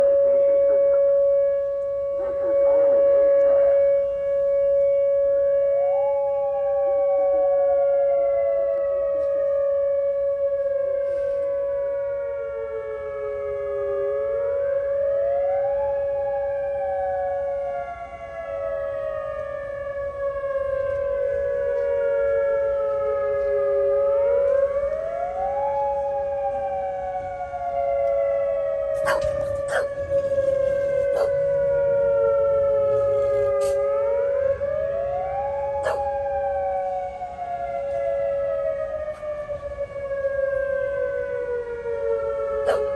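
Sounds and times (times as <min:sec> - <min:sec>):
tornado warning siren: 0:00.0 - 0:42.9.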